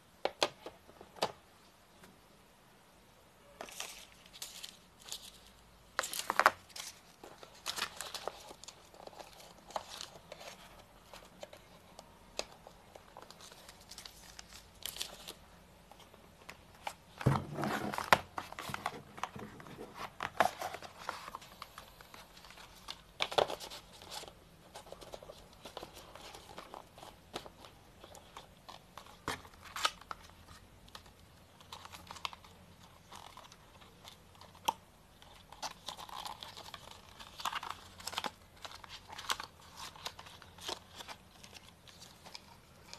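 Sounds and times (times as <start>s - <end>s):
packaging rustling and crinkling: 3.6s - 42.9s.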